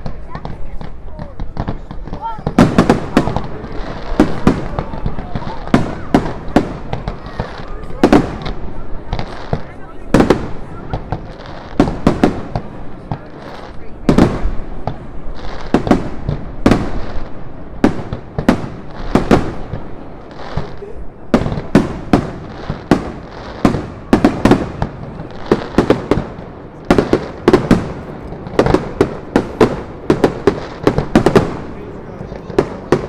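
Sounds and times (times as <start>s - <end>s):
fireworks bursting: 0.0s - 33.0s.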